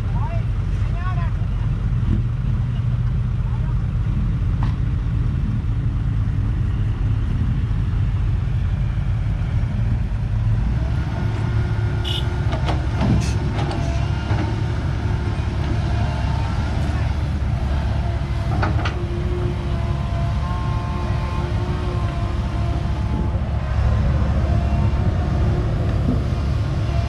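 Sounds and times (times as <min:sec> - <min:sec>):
diesel engines running: 0:00.0 - 0:27.0.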